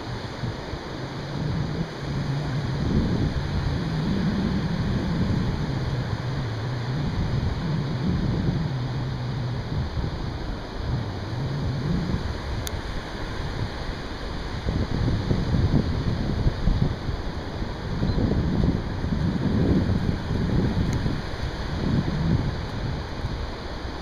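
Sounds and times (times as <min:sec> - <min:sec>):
low wavering hum: 0:00.0 - 0:24.0
ocean surf washing in: 0:00.0 - 0:24.0
wind buffeting the microphone: 0:00.0 - 0:24.0.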